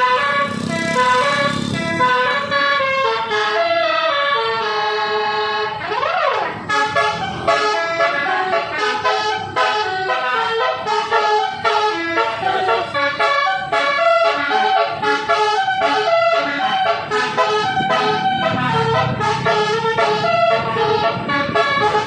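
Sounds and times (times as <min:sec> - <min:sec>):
bus air horn tune: 0:00.0 - 0:22.0
siren-like horn sweep: 0:00.0 - 0:22.0.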